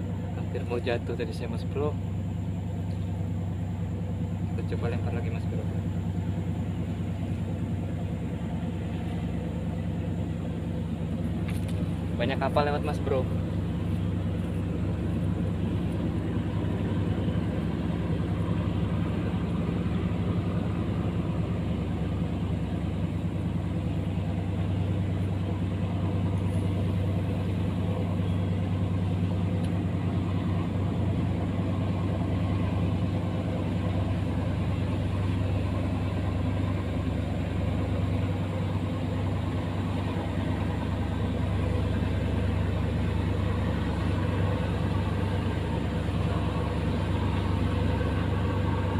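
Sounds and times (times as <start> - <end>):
boat engines droning: 0.0 - 48.9.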